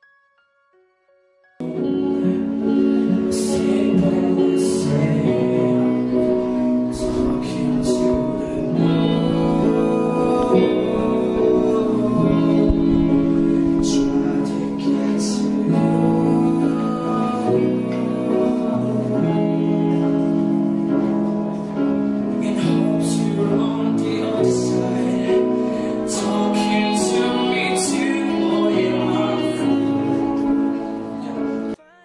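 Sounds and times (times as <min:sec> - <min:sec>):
electric guitar chords: 0:01.6 - 0:31.8
man singing into microphone: 0:01.6 - 0:32.0.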